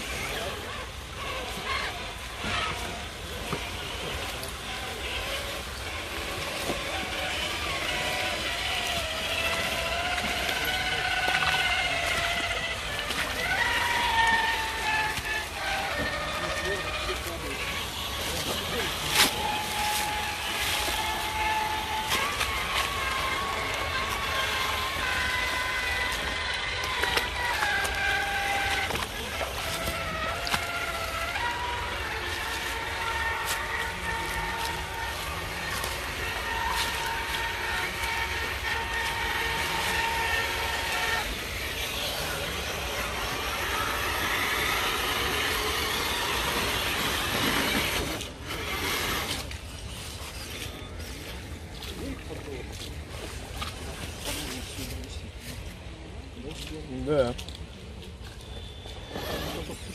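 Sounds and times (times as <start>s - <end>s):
electric motor and gears whining: 0.0s - 59.9s
wheels clicking on stones: 0.0s - 59.9s.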